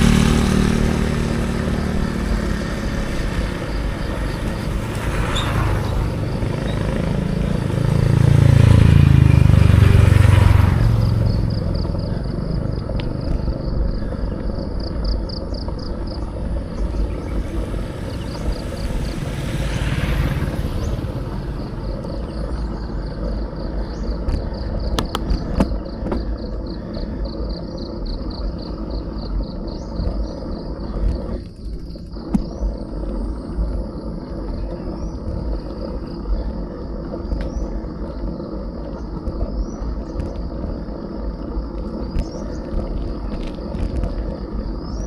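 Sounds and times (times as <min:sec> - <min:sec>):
high pulsing insect trill: 0:00.0 - 0:45.0
low wind: 0:00.0 - 0:45.0
motor vehicle passing: 0:00.0 - 0:45.0
road rumble: 0:00.0 - 0:45.0.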